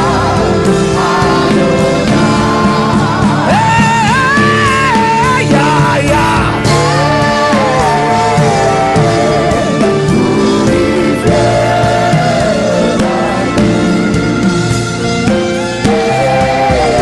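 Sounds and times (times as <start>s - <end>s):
instrumental backing with percussion: 0.0s - 17.0s
sung gospel chant: 0.0s - 17.0s.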